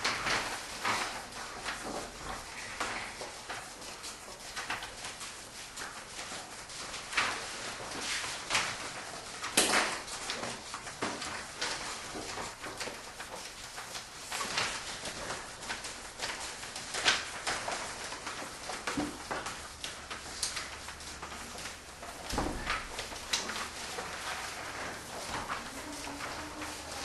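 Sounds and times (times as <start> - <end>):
book pages turning: 0.0 - 27.0.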